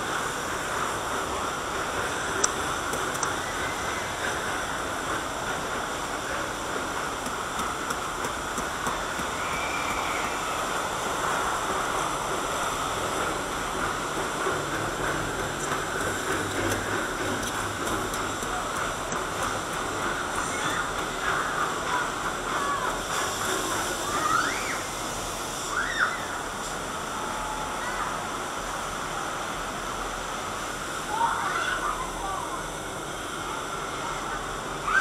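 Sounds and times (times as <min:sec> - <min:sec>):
conveyor lift rumbling: 0:00.0 - 0:35.0
water rushing: 0:00.0 - 0:35.0.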